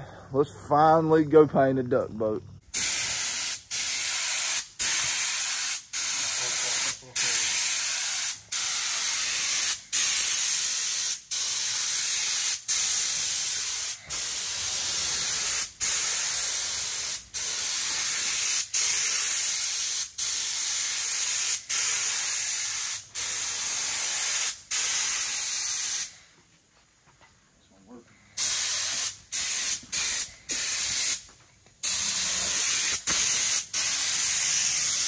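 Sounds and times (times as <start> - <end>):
paint spray gun hissing: 2.7 - 26.1, 28.4 - 35.0.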